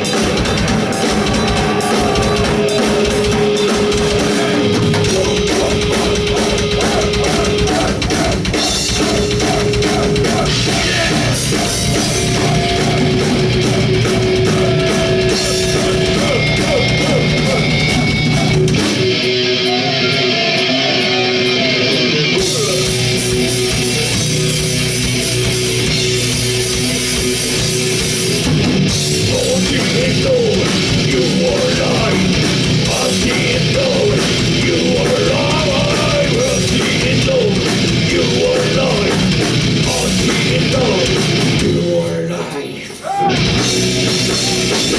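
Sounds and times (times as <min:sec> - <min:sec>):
heavy metal band playing: 0:00.0 - 0:44.9.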